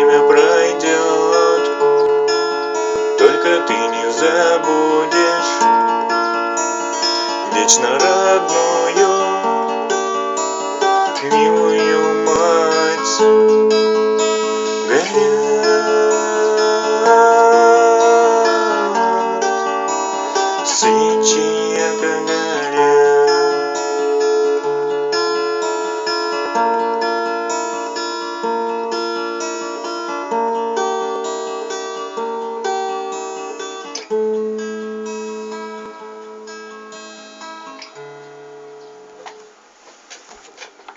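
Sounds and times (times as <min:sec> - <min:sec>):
acoustic guitar strumming chords: 0:00.0 - 0:40.9.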